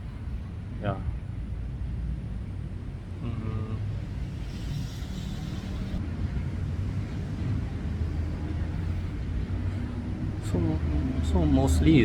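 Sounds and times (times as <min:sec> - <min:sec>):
traffic rumble: 0:00.0 - 0:12.0
wind rumble: 0:00.0 - 0:12.0.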